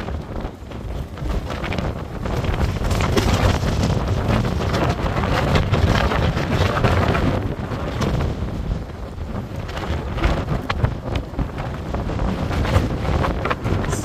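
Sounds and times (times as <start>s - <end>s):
storm wind gusting: 0.0s - 14.0s
wind buffeting microphone: 0.0s - 14.0s.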